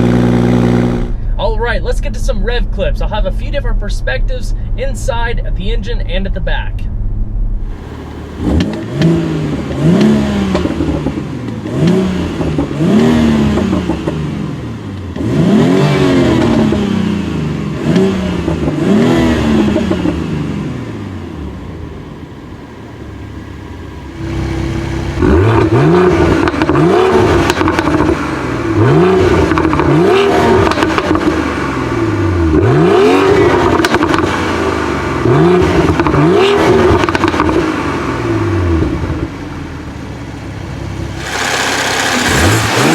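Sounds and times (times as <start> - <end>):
car engine revving: 0.0 - 2.6, 6.9 - 42.9
car engine idling: 0.0 - 42.9.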